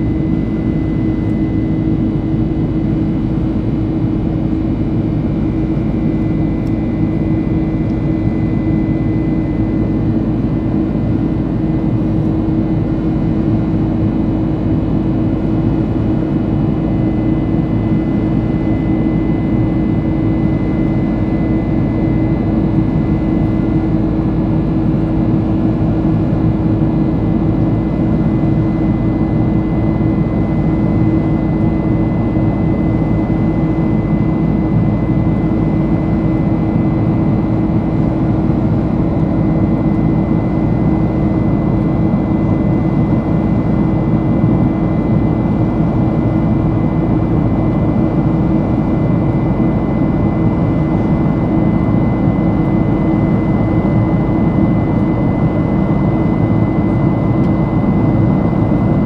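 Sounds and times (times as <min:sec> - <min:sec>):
jet engine roar in cabin: 0:00.0 - 0:59.0.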